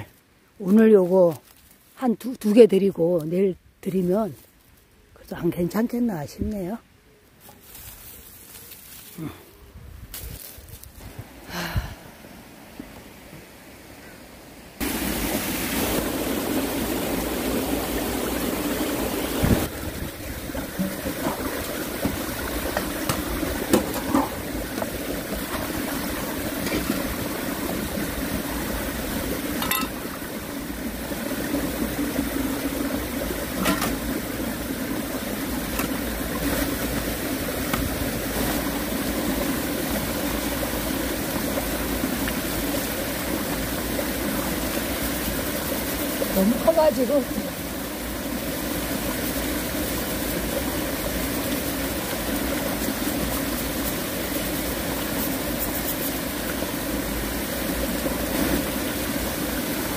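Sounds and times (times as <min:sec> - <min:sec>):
mountain stream running: 0:10.4 - 0:59.9.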